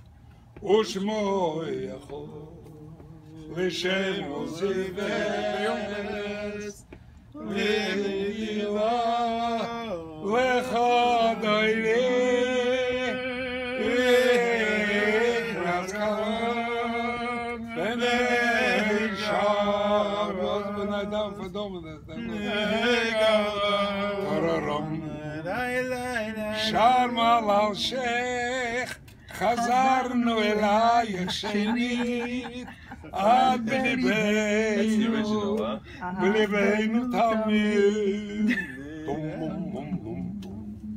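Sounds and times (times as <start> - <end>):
men singing wordless melody: 0.5 - 40.9.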